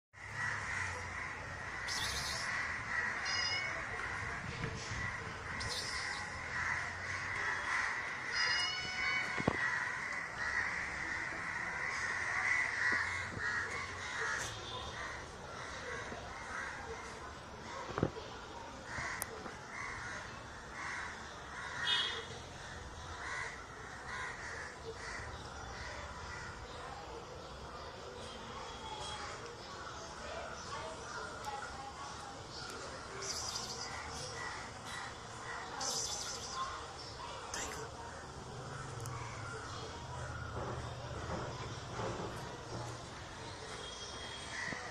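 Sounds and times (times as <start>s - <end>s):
harsh cawing birds: 0.2s - 18.1s, 18.8s - 27.4s, 29.0s - 44.9s.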